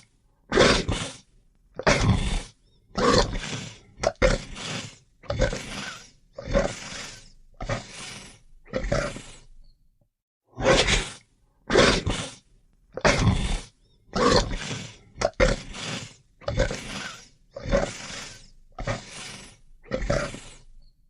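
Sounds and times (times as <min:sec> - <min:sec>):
harsh growling snarls: 0:00.0 - 0:09.6, 0:10.5 - 0:20.9.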